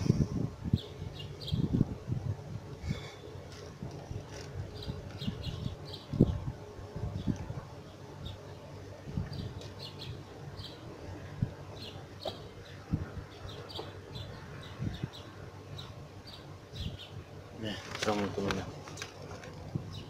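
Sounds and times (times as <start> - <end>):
small birds chirping: 0.6 - 1.8, 2.8 - 20.0.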